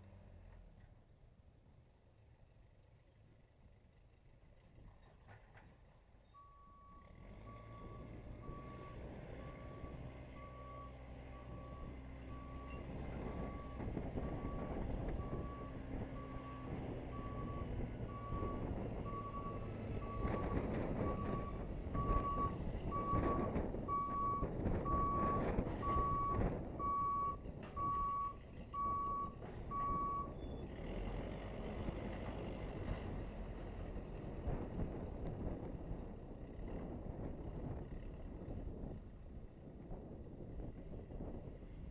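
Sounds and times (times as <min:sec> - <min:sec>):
backhoe engine: 0:00.0 - 0:41.9.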